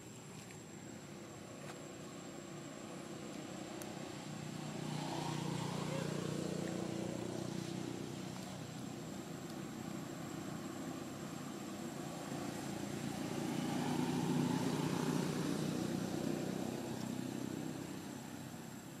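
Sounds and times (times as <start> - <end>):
distant engine passing by: 0.6 - 19.0.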